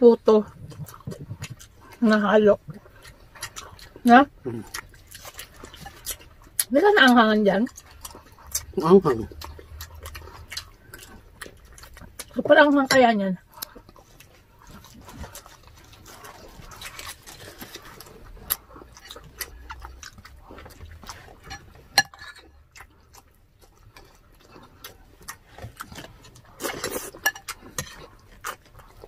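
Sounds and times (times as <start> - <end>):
chewing crispy fried food: 0.0 - 29.0.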